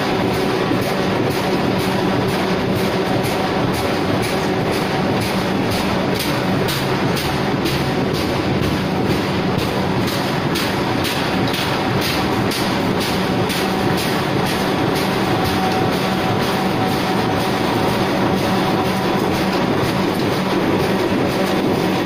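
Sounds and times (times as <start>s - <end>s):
constant machine hum: 0.0s - 22.0s
printing machine clatter: 0.0s - 22.0s
regular machine knock: 0.2s - 22.0s.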